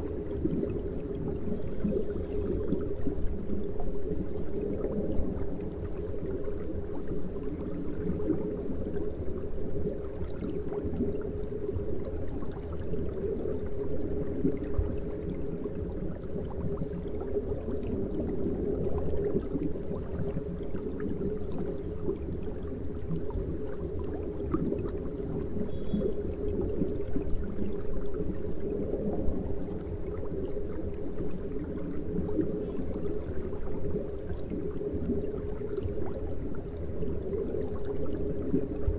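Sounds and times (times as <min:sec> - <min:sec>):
aquarium water bubbling: 0:00.0 - 0:38.9.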